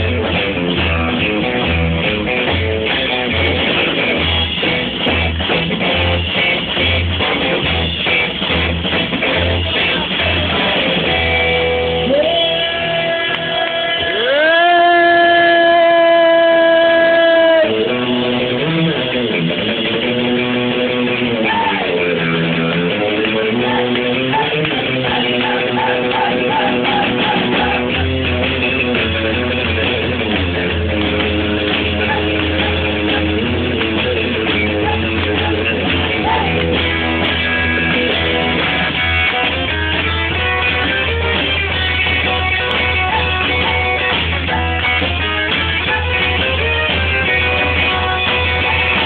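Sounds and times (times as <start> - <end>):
bass line: 0.0 - 49.0
electric guitar strumming: 0.0 - 49.0
rock band playing live: 0.0 - 49.0.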